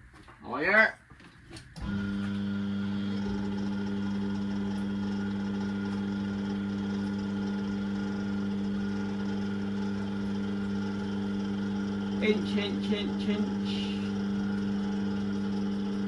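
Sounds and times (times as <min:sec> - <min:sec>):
hydraulic pump motor humming: 0:01.8 - 0:16.0.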